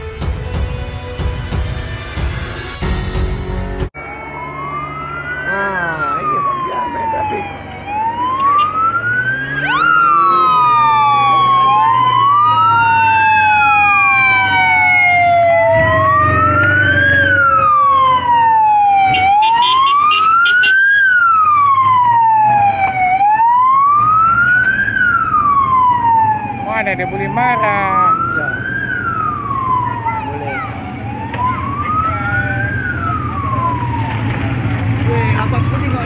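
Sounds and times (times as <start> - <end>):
sirens wailing: 3.8 - 36.0
rapid siren warble: 4.0 - 36.0
siren sliding down in pitch: 4.0 - 36.0.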